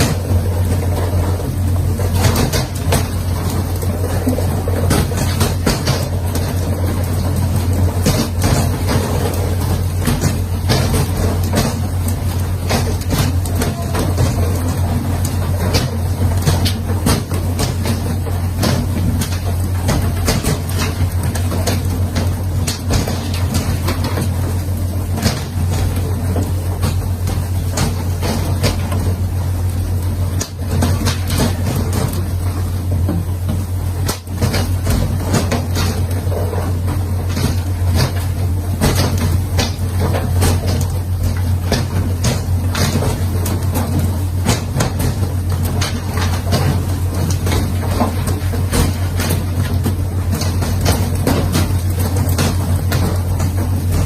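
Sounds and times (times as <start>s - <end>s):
heavy engine humming: 0.0s - 54.0s
knocks and clatter: 0.0s - 54.0s.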